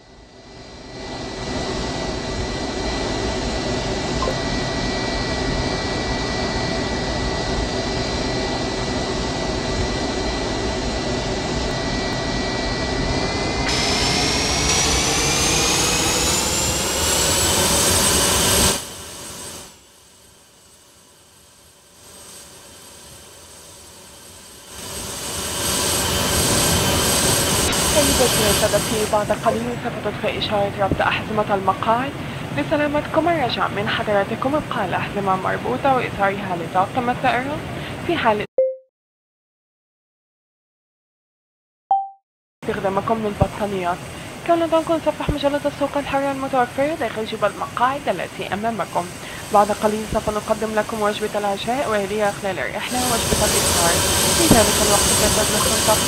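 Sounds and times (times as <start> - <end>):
jet engines rushing and whining: 0.0 - 20.0, 21.8 - 38.2, 42.6 - 56.0.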